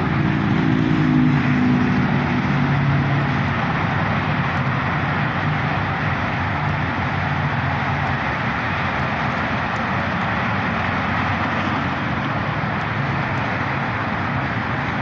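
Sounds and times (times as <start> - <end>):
rushing noise: 0.0 - 15.0
steady engine drone: 0.0 - 15.0.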